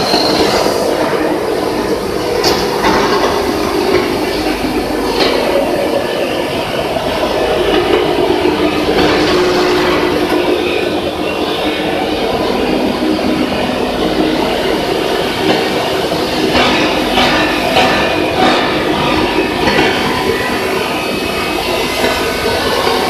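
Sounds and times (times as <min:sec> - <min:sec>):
steady hum: 0:00.0 - 0:23.0
wire granulator running: 0:00.0 - 0:23.0.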